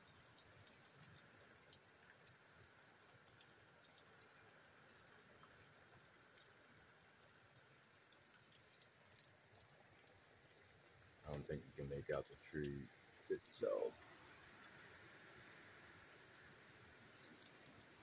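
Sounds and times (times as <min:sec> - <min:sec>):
drips ticking off roof edge: 0:00.0 - 0:18.0
faint steady rain: 0:00.0 - 0:18.0.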